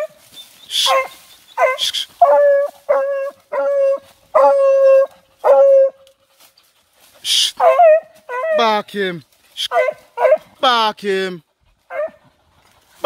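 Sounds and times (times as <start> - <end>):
hounds baying: 0.0 - 8.8, 9.6 - 10.6, 11.5 - 12.8.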